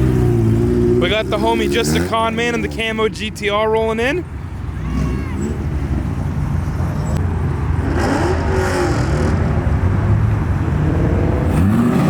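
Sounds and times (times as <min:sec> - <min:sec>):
car engine revving: 0:00.0 - 0:03.0, 0:04.8 - 0:12.0
car engines running: 0:00.0 - 0:12.0.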